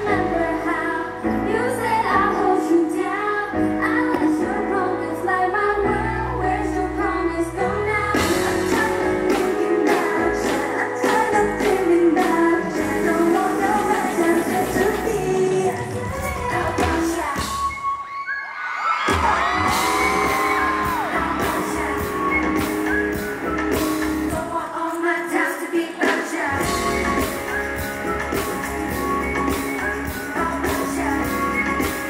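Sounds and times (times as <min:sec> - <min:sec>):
pop music with female singers: 0:00.0 - 0:32.0.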